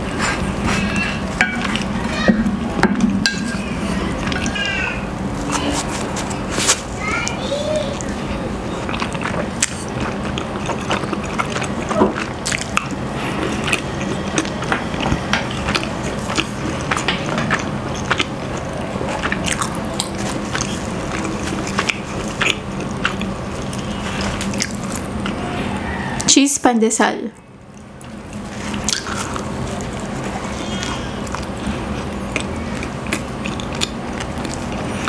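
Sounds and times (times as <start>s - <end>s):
person chewing noodles: 0.0s - 2.0s, 3.3s - 26.1s, 27.4s - 35.0s.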